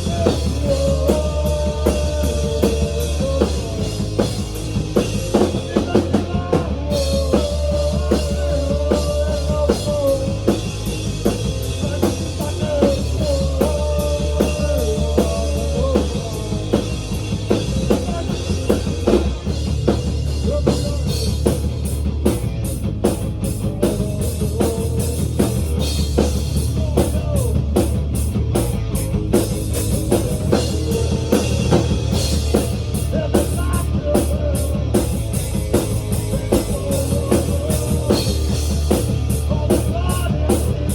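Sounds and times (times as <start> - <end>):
rock music: 0.0 - 40.9.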